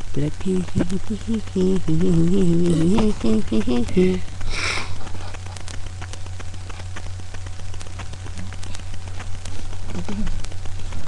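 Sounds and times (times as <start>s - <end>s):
faint clicks and crackle: 0.0s - 11.0s
low electrical hum: 0.0s - 11.0s.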